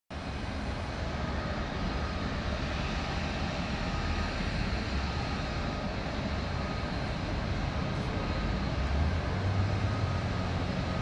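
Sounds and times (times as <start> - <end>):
distant locomotive rumble: 0.1 - 11.0.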